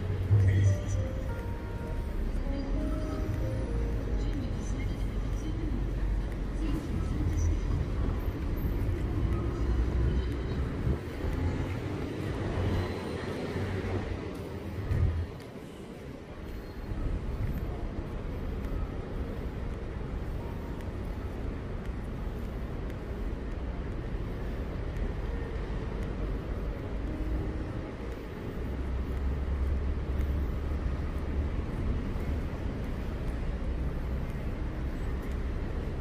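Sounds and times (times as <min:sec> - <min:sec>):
low rumble of traffic: 0:00.0 - 0:36.0.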